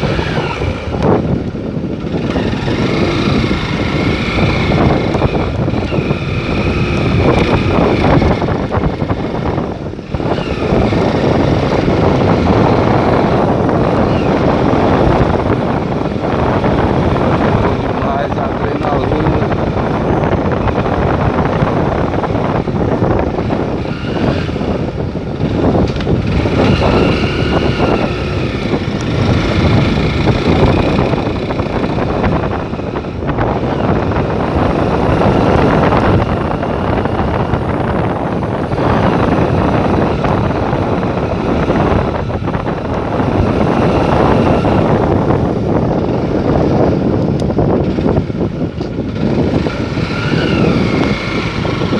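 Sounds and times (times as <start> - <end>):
vehicle engine and road noise: 0.0 - 51.9
wind buffeting microphone: 0.0 - 51.9.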